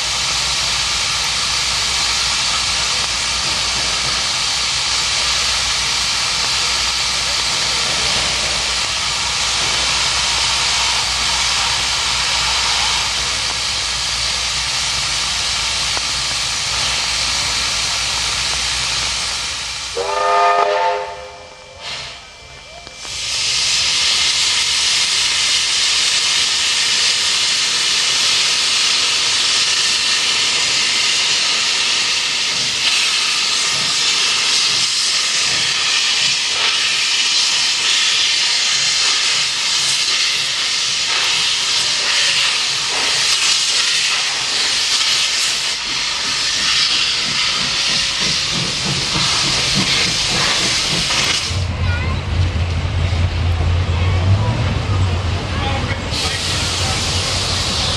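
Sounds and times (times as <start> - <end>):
steam locomotive venting steam: 0.0 - 57.9.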